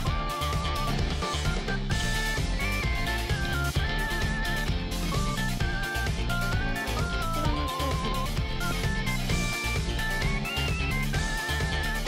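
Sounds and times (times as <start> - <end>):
instrumental music with guitar and drums: 0.0 - 12.0.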